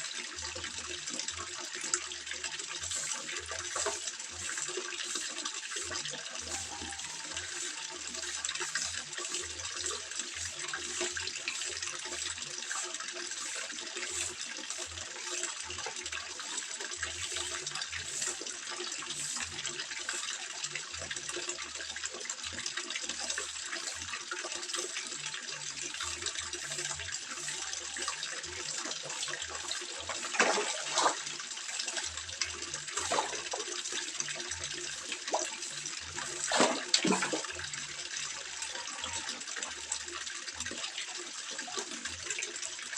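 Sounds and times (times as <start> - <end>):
water trickling and splashing: 0.0 - 42.9.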